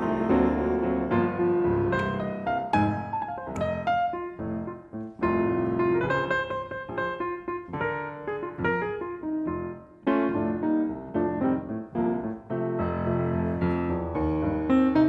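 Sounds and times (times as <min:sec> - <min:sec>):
jazz piano playing blues: 0:00.0 - 0:15.0.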